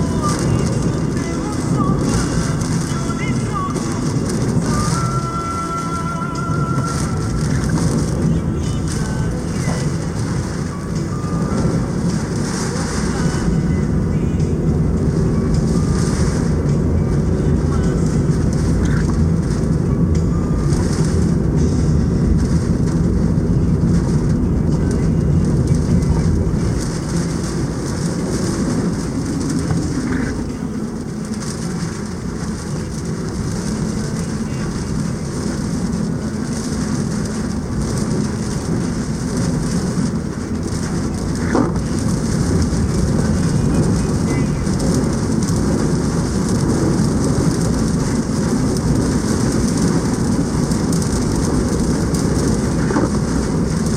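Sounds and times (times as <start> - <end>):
heavy rain: 0.0 - 53.9
strong wind: 0.0 - 53.9.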